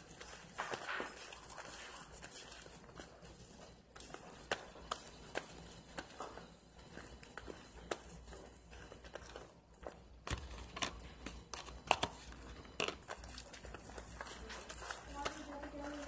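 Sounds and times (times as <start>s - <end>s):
slime squishing with sticky pops: 0.0s - 16.0s.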